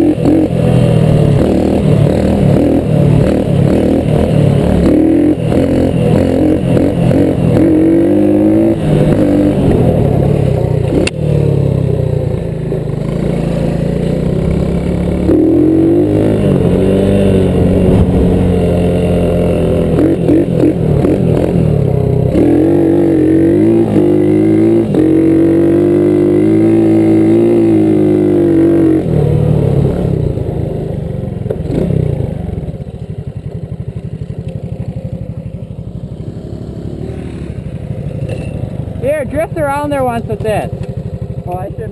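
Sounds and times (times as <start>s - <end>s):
off-road engine revving: 0.0s - 32.8s, 38.8s - 41.9s.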